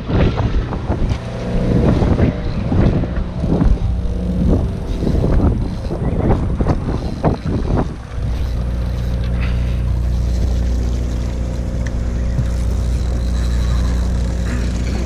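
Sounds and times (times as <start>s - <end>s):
boat engine humming: 0.0s - 15.0s
wind buffeting microphone: 0.0s - 15.0s.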